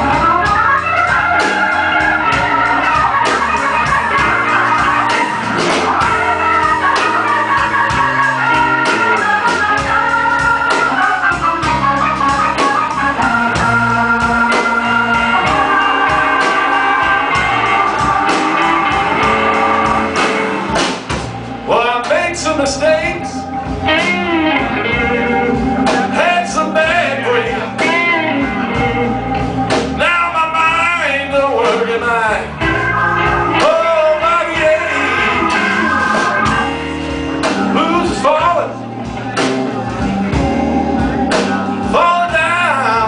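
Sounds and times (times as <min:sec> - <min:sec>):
bass: 0:00.0 - 0:43.0
guitar: 0:00.0 - 0:43.0
organ chords: 0:00.0 - 0:43.0
steady drum beat: 0:00.0 - 0:43.0.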